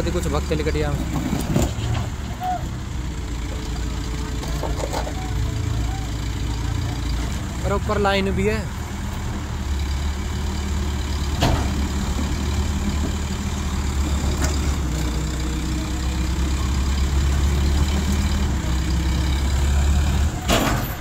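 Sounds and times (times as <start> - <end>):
diesel crane engines droning: 0.0 - 21.0.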